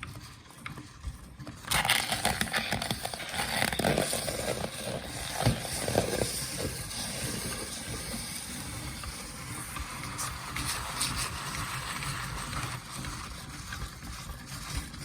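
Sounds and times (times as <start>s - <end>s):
steady grinding noise: 0.0s - 15.0s
meringue crackling in grinder: 0.6s - 15.0s.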